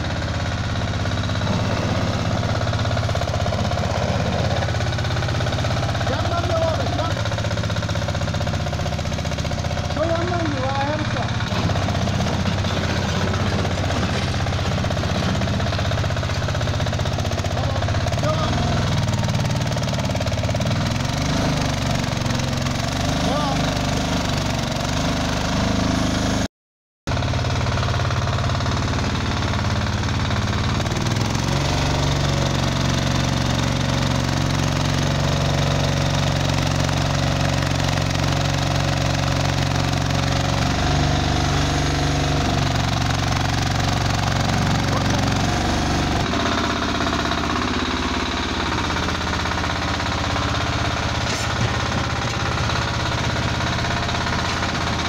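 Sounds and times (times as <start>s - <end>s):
loader engine running under load: 0.0s - 26.5s, 27.1s - 55.0s.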